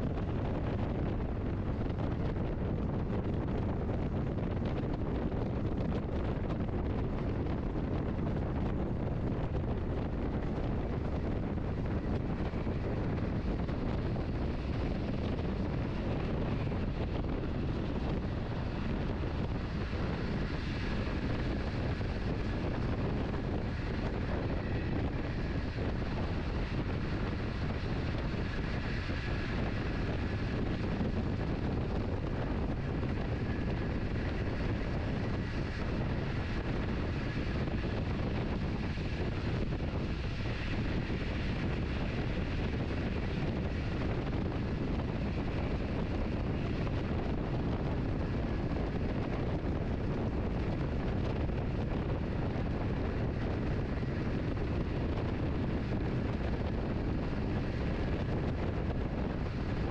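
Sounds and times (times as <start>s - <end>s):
train wheels rumbling on track: 0.0s - 59.8s.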